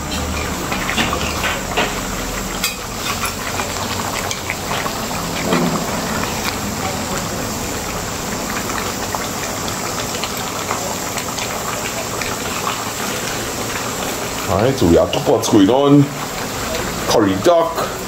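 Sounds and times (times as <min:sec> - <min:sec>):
stew bubbling and sizzling in pot: 0:00.0 - 0:18.0.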